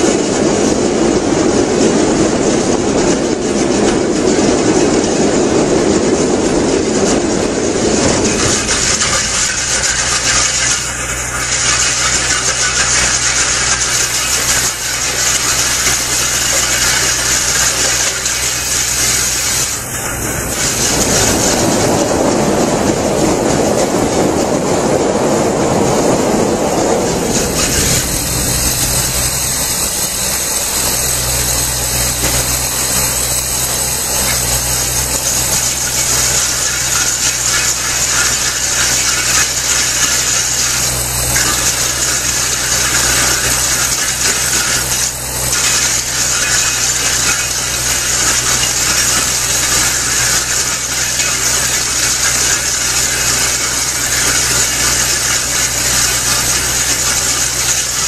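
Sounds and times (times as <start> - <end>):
drum cutter grinding concrete: 0.0 - 58.0
excavator engine drone: 0.0 - 58.0.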